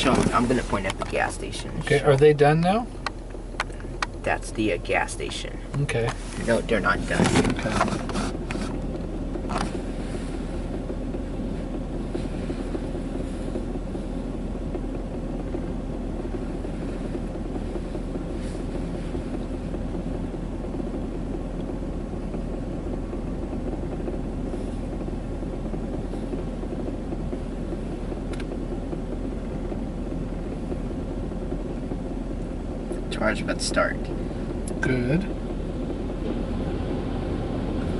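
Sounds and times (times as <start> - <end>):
automatic car wash droning: 0.0 - 37.9.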